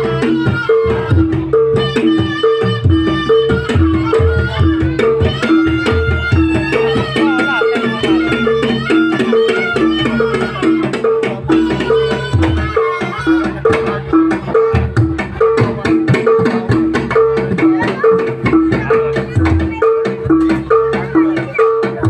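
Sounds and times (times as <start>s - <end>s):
hand drums: 0.0s - 22.0s
reedy wind instrument melody: 0.0s - 22.0s
two-note metallic ostinato: 0.0s - 22.0s.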